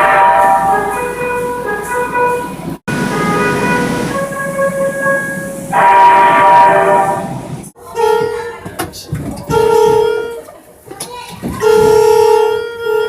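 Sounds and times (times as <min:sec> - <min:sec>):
train horn chord: 0:00.0 - 0:08.8, 0:09.5 - 0:10.5, 0:11.6 - 0:13.0
low train running rumble: 0:00.0 - 0:13.0.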